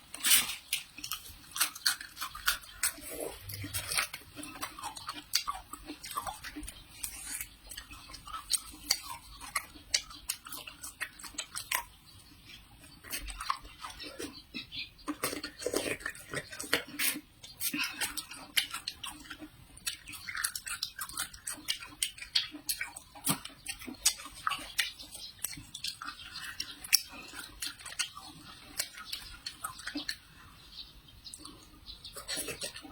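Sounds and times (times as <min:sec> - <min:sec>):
crisp crunching of pear: 0:00.0 - 0:30.3, 0:31.3 - 0:32.9.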